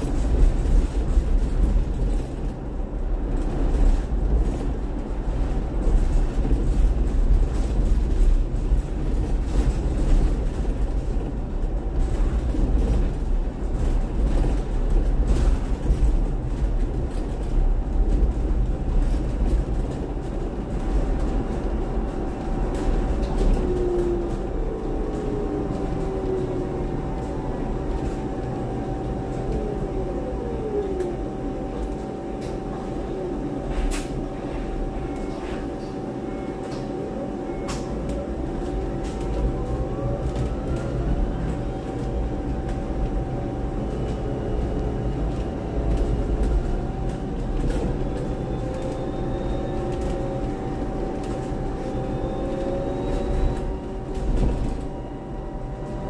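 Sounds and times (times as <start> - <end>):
bus body rattles and knocks: 0.0 - 29.9, 37.6 - 56.0
road rumble: 0.0 - 36.1, 36.8 - 56.0.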